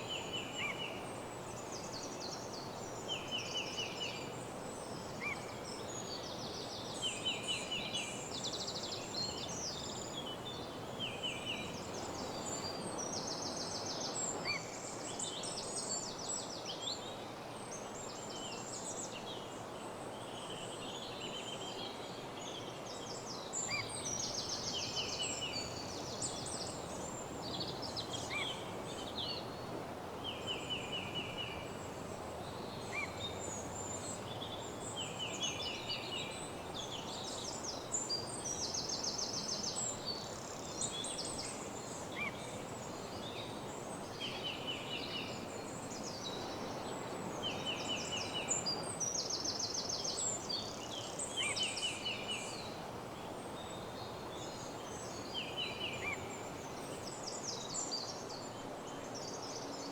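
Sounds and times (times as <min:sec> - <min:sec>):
songbirds singing: 0:00.0 - 0:16.1, 0:23.0 - 0:59.8.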